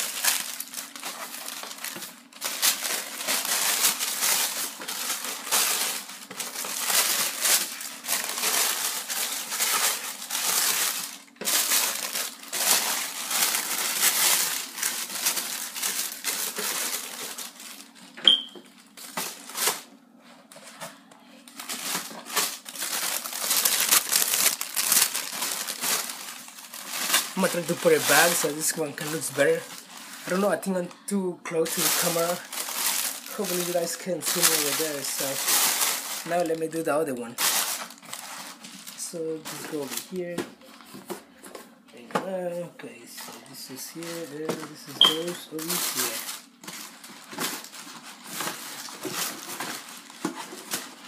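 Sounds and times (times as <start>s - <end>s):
crinkly plastic packaging handled: 0.0s - 51.0s.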